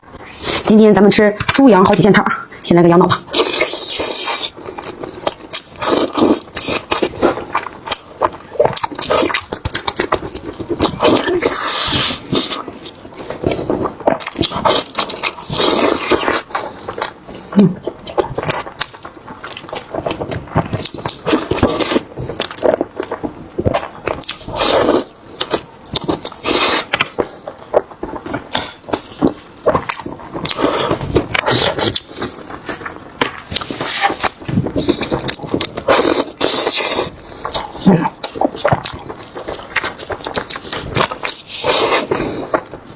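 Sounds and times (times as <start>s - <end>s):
chewing and biting: 3.1s - 42.9s.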